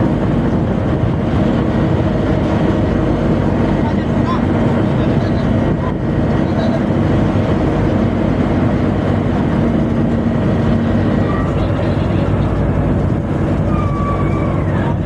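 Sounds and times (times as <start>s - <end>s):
tugboat machinery droning: 0.0s - 15.0s.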